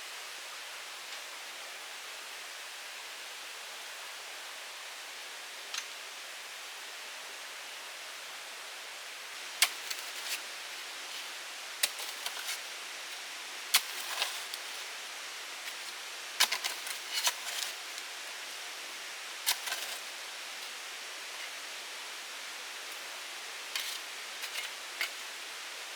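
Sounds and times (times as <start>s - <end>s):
steady hiss: 0.0s - 25.9s.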